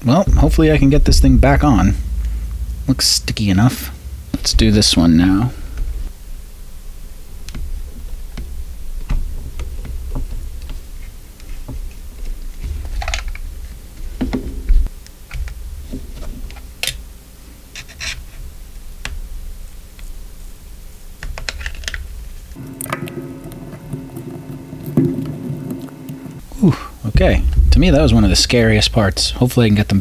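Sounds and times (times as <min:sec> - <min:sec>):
low handling bumps: 0:00.0 - 0:30.0.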